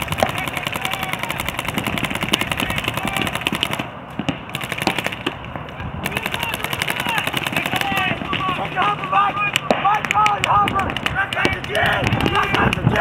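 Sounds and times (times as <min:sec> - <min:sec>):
paintball markers firing rapidly: 0:00.0 - 0:13.0.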